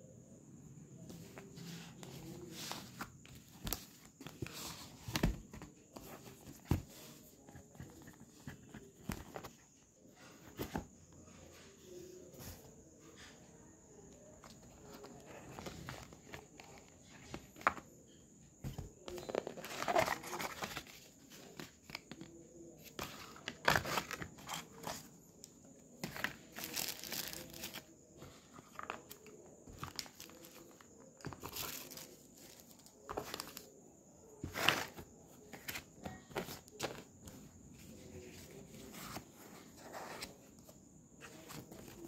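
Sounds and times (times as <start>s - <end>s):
cardboard and paper rustling: 1.1s - 13.3s, 18.6s - 25.2s, 25.9s - 42.0s.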